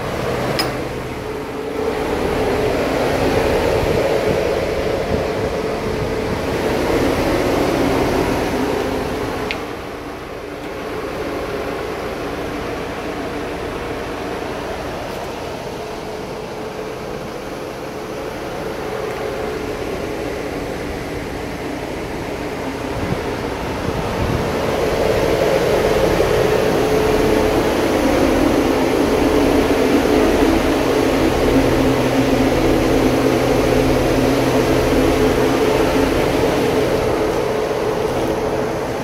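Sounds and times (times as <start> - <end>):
refrigerated truck humming: 0.0 - 39.0.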